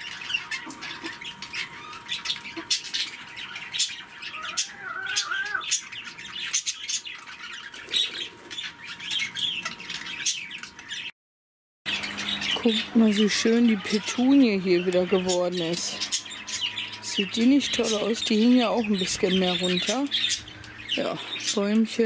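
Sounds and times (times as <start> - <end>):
budgerigars chattering: 0.0 - 11.1, 11.9 - 22.0.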